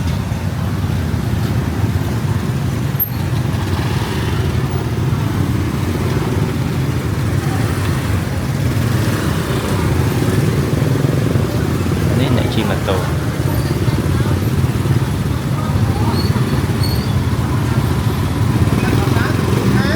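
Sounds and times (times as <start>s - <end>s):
road traffic rumble: 0.0s - 19.9s.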